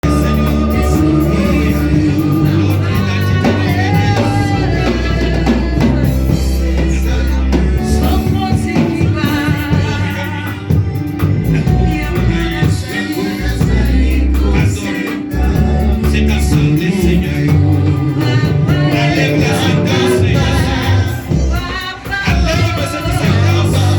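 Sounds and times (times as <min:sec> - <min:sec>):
band with sustained bass: 0:00.0 - 0:23.9
voices singing gospel: 0:00.0 - 0:23.9.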